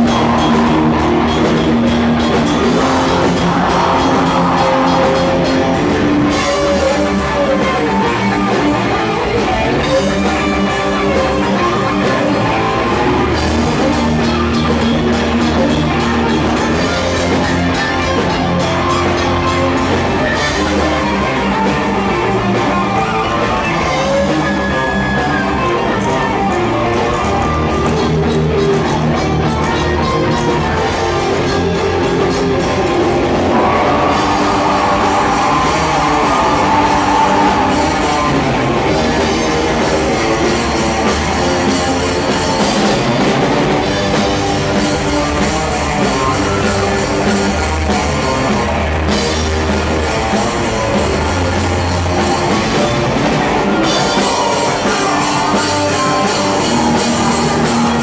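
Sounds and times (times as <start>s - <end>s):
death metal band playing live: 0.0s - 58.0s.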